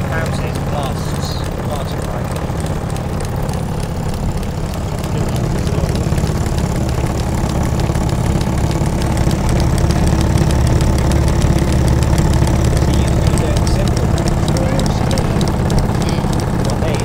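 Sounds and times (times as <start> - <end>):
low engine drone: 0.0 - 17.0
model steam engine ticking: 0.0 - 17.0.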